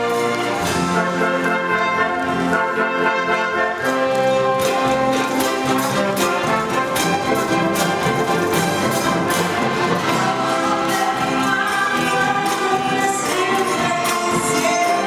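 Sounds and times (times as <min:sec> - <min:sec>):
orchestra and choir performing: 0:00.0 - 0:15.0.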